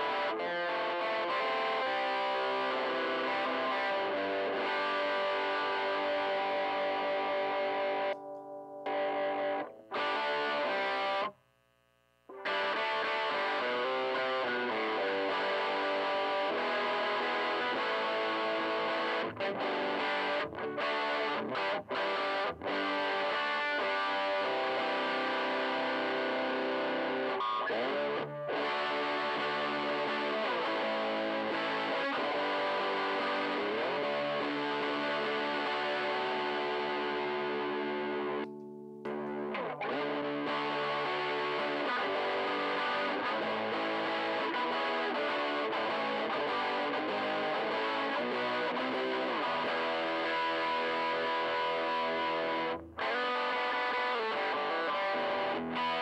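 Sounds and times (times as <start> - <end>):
distorted electric guitar chords: 0.0 - 11.4, 12.1 - 56.0.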